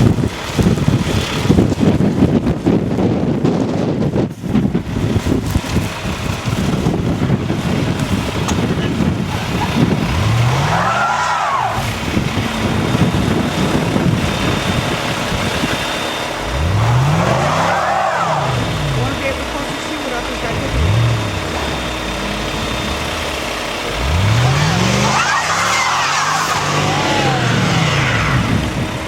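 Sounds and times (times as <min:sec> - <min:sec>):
tires spinning whine: 0:00.0 - 0:29.0
wind buffeting microphone: 0:00.0 - 0:29.0
car engine revving: 0:04.8 - 0:29.0.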